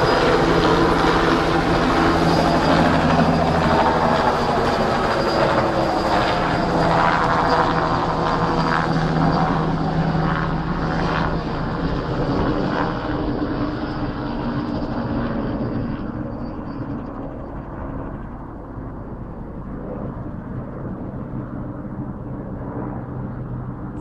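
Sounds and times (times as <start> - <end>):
helicopter drone: 0.0 - 24.0.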